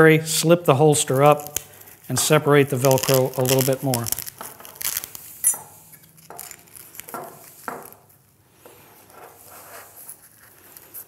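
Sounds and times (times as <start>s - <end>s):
fabric and velcro rustling: 1.0s - 8.4s, 9.0s - 11.0s.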